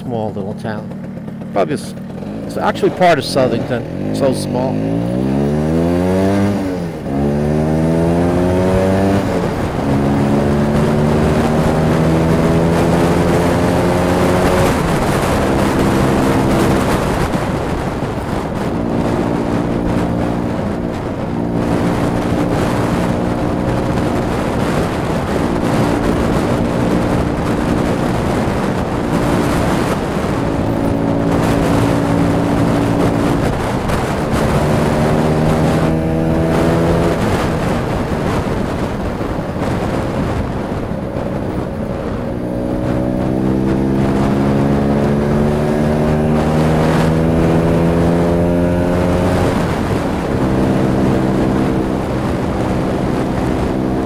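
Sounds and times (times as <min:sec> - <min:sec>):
scooter two-stroke engine accelerating: 0:00.0 - 0:54.0.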